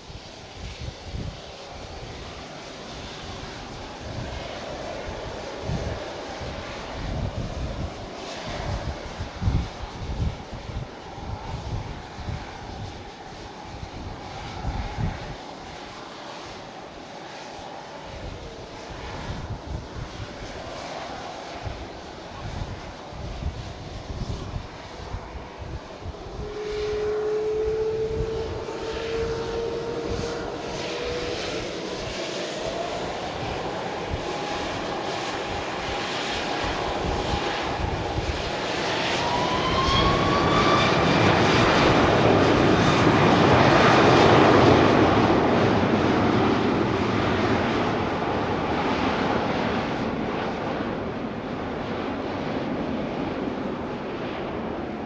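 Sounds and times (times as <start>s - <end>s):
jet engines roaring: 0.0s - 55.0s
rising engine whine: 0.0s - 55.0s.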